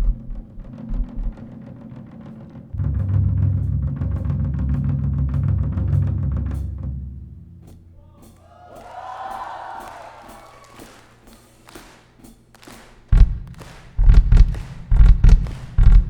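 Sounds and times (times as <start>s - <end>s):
drum kit playing: 0.0s - 1.8s, 2.8s - 16.0s.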